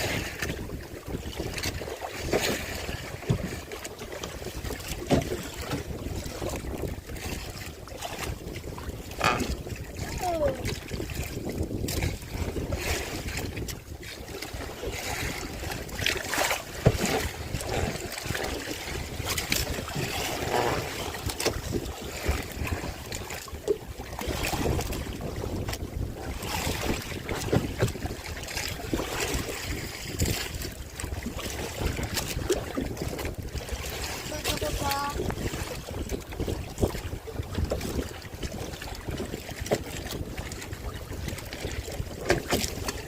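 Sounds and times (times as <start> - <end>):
knocks and splashes: 0.0 - 43.0
wind buffeting microphone: 0.0 - 43.0.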